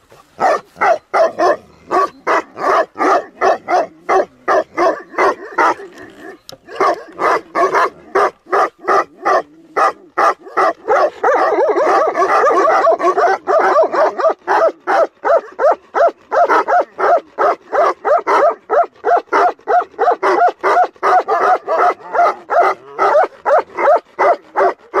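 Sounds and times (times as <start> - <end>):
dogs barking: 0.1 - 25.0.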